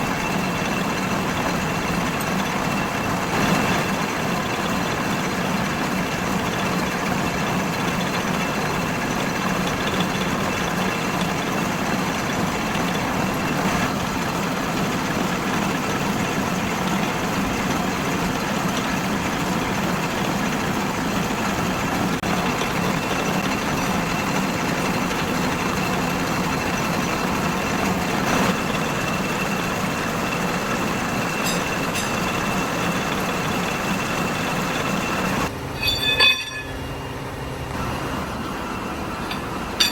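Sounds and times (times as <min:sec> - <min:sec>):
workshop machinery drone: 0:00.0 - 0:39.9.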